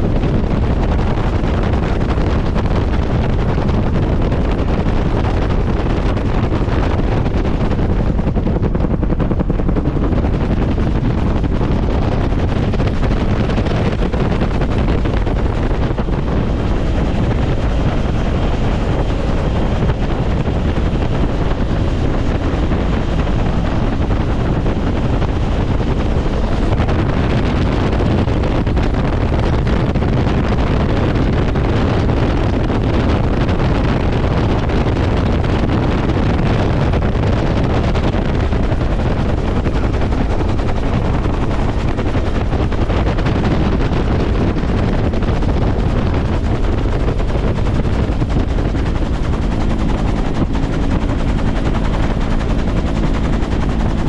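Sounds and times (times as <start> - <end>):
helicopter engine and rotor noise: 0.0 - 54.0
wind buffeting microphone: 0.0 - 54.0.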